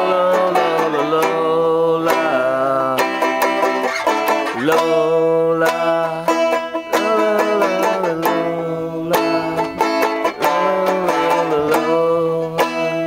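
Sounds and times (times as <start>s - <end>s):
acoustic plucked strings playing: 0.0s - 13.0s.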